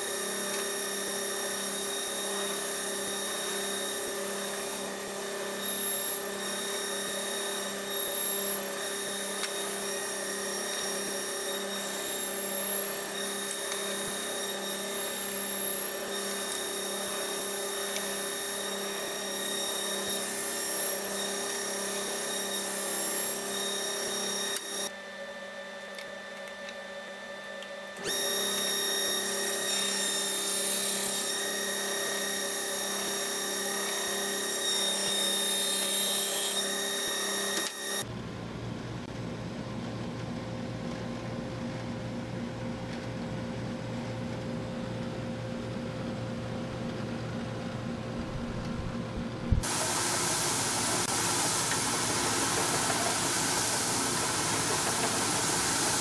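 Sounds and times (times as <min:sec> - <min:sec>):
table saw motor humming: 0:00.0 - 0:38.1, 0:48.2 - 0:56.0.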